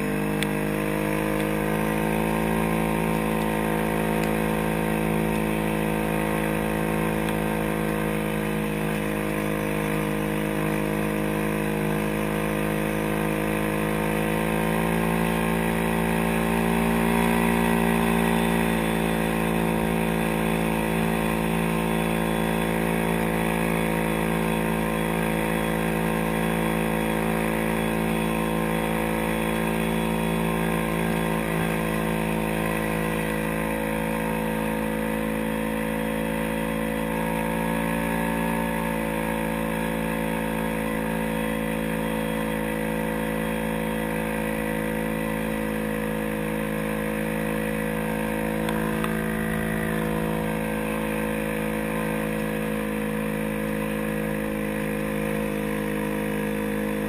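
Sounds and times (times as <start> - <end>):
tracked atv engine running: 0.0 - 57.0.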